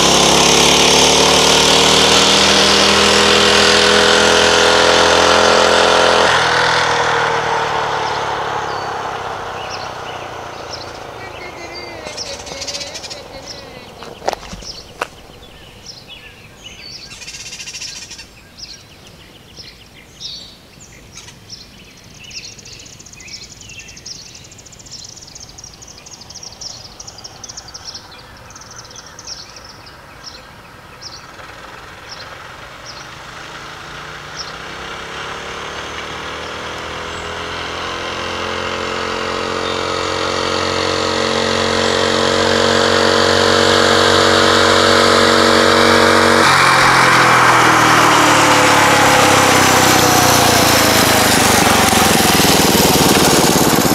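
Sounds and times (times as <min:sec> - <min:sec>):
small bike engine at full throttle: 0:00.0 - 0:18.7, 0:25.5 - 0:53.9
birds chirping: 0:01.9 - 0:53.9.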